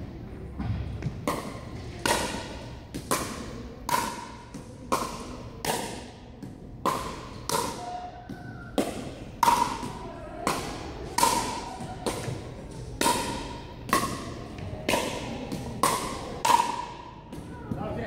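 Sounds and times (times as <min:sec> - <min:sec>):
paddles striking plastic ball: 0:01.0 - 0:17.8.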